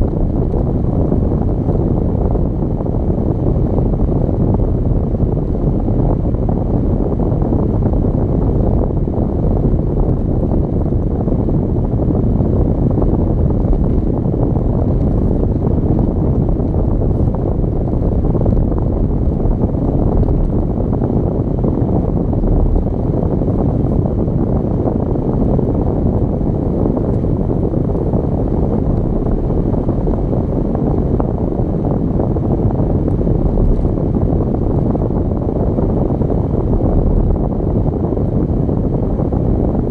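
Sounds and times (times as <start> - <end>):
car tyre and wind noise: 0.0 - 39.9.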